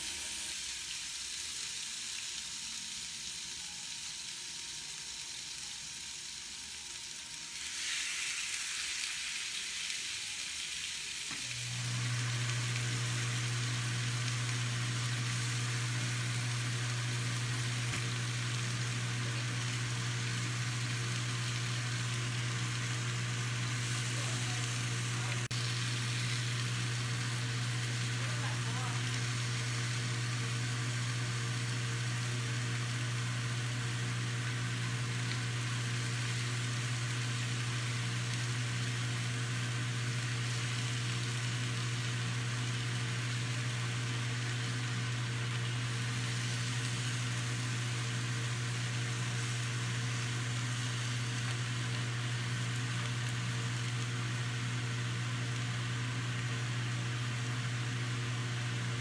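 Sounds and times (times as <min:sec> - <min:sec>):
steak sizzling in a frying pan: 0:00.0 - 0:59.0.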